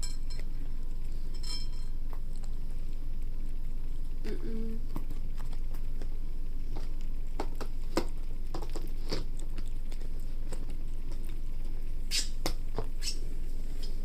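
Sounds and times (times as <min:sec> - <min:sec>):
steady low hum: 0:00.0 - 0:14.0
chewing clicks and smacks: 0:00.1 - 0:04.2, 0:04.8 - 0:14.0.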